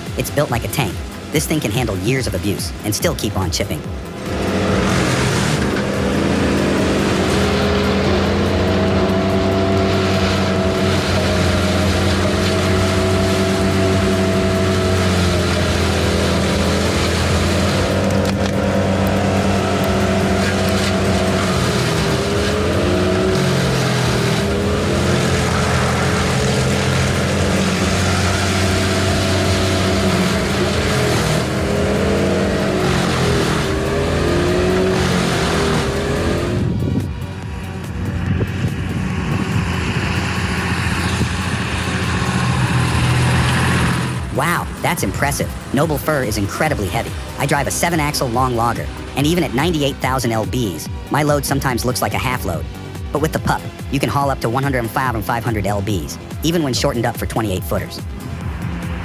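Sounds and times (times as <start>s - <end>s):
heavy machine engine running: 0.0s - 59.0s.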